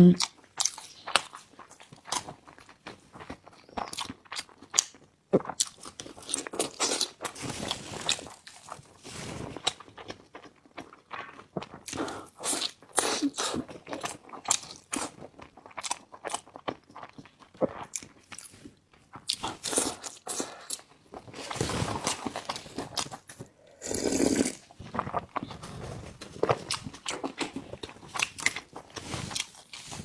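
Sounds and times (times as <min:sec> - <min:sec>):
person chewing food: 0:00.1 - 0:30.0.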